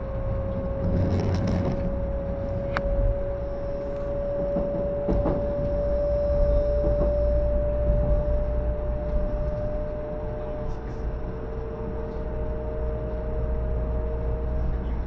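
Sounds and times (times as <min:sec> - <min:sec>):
rising second whine tone: 0:00.0 - 0:14.8
traction motor whine: 0:00.0 - 0:15.0
train wheels rumbling on track: 0:00.0 - 0:15.0.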